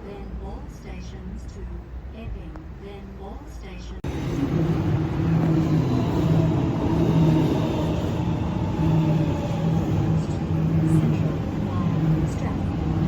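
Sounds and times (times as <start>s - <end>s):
low train hum: 0.0s - 13.0s
train rumbling: 0.0s - 13.0s.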